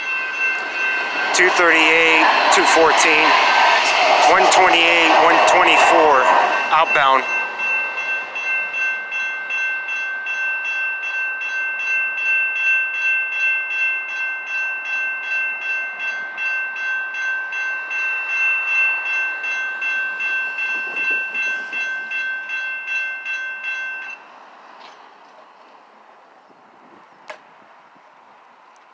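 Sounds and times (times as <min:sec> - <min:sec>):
railroad crossing bell ringing: 0:00.0 - 0:24.6.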